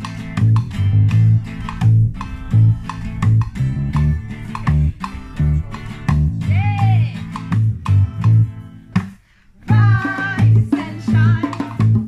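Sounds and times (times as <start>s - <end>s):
bass guitar line: 0.0s - 12.0s
strummed acoustic guitar: 0.0s - 12.0s.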